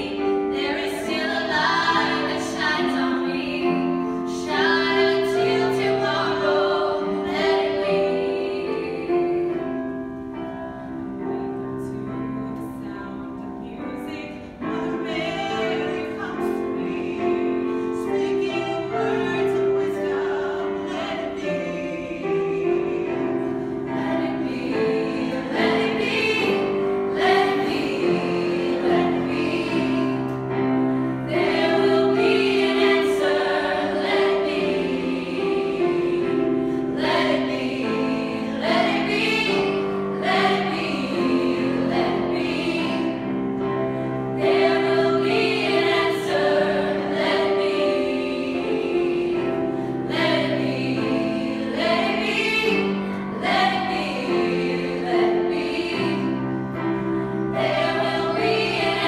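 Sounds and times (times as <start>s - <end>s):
choir singing pop ballad: 0.0s - 59.0s.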